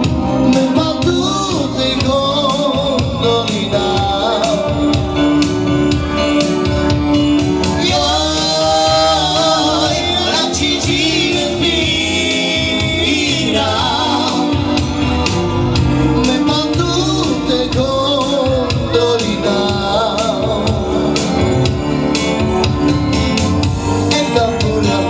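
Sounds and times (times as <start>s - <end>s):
man singing into a microphone: 0.0s - 6.5s, 7.5s - 22.2s, 23.9s - 25.0s
electronic keyboard with steady beat: 0.0s - 25.0s.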